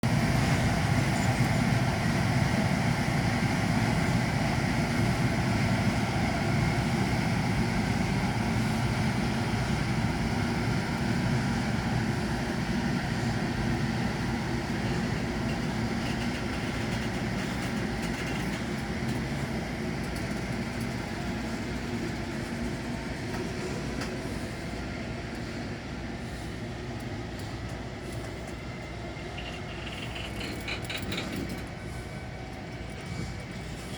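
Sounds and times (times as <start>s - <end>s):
freight train rumbling: 0.0s - 33.9s.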